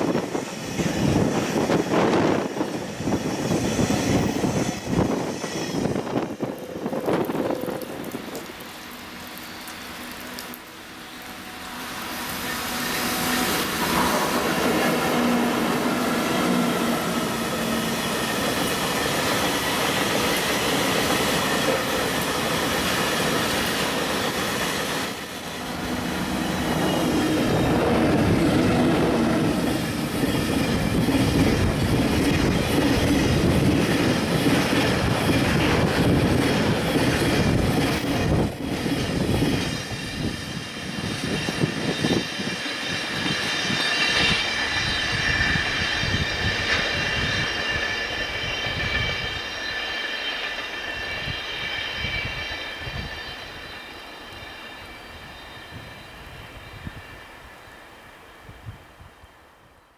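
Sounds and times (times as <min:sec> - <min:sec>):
freight train wheels rumbling and clattering: 0:00.0 - 0:10.6, 0:12.0 - 0:57.3.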